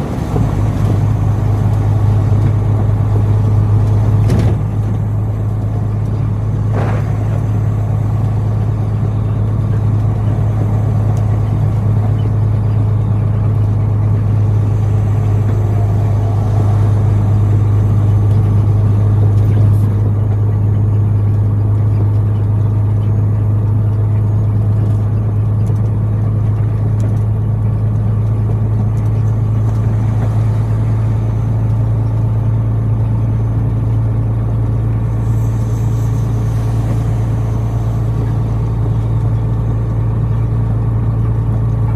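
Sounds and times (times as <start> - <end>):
truck engine droning: 0.0 - 41.9.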